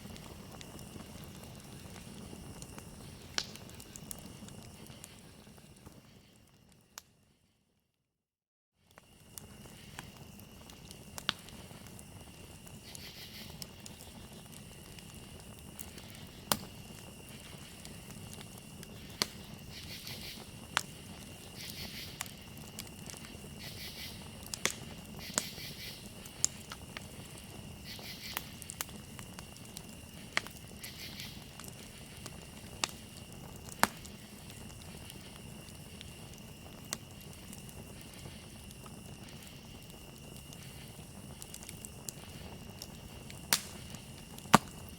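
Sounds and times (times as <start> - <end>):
pulsing insect calls: 0.0 - 6.4, 9.0 - 44.9
crickets trilling: 0.0 - 7.0, 8.8 - 44.9
campfire crackling and popping: 0.0 - 7.2, 8.8 - 44.9.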